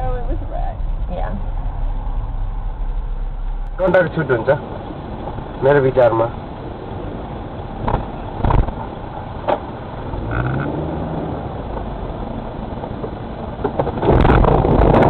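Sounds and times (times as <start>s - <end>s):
car engine accelerating: 0.0s - 15.0s
road noise inside car: 0.0s - 15.0s.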